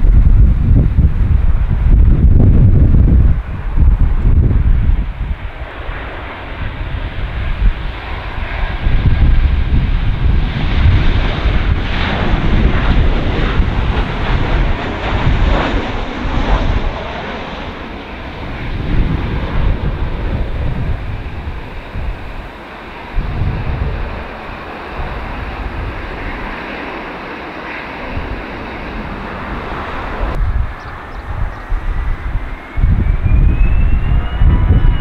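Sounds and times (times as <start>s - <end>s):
jet engines of landing airliner: 0.0s - 35.0s
wind buffeting microphone: 0.0s - 35.0s.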